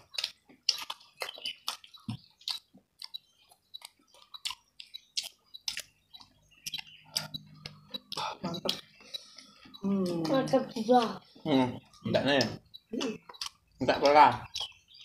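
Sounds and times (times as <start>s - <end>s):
people chewing and lip smacking: 0.0s - 15.0s.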